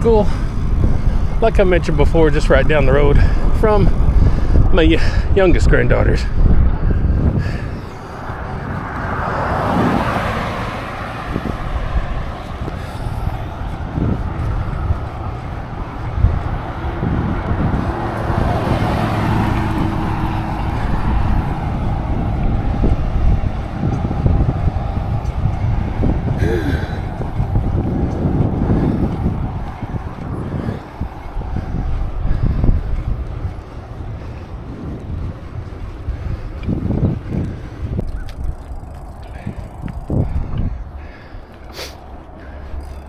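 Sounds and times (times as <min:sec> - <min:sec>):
cars passing: 0:00.0 - 0:43.0
wind rumble on microphone: 0:00.0 - 0:43.0.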